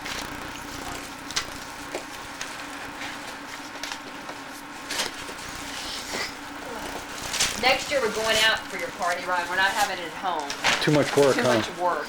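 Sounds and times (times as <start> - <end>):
steady low hum: 0.0 - 12.0
wrapping paper crinkling and tearing: 0.0 - 12.0.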